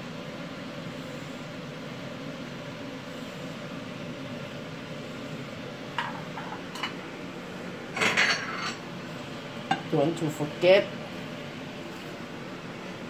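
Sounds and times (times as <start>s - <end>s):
fan-like kitchen hum: 0.0s - 13.0s.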